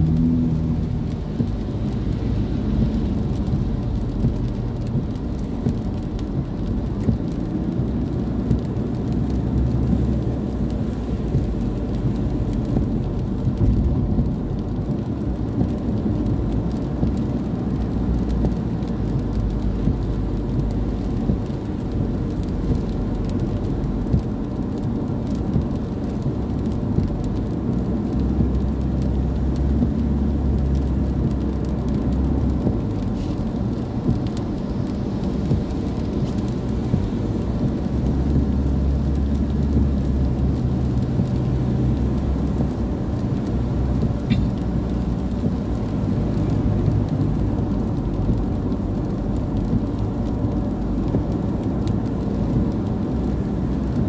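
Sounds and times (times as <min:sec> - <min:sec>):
car engine and tyre noise: 0:00.0 - 0:54.0
rain pattering on windscreen: 0:00.0 - 0:54.0.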